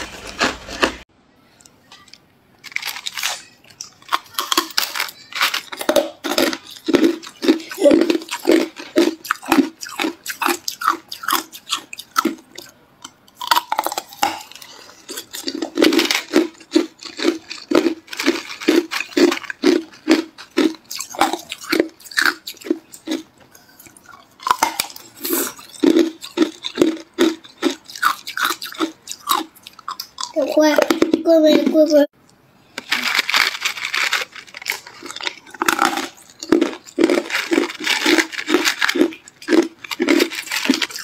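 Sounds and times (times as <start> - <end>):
ice crunching while chewed: 2.6 - 31.2, 32.8 - 41.0.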